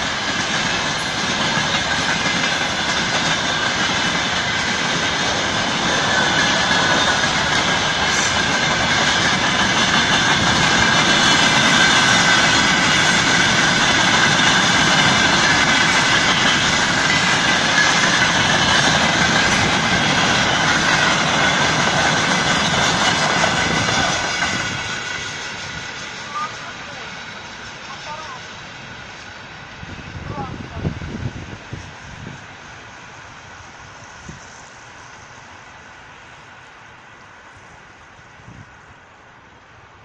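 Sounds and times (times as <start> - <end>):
train wheels rumbling and clattering: 0.0 - 39.5.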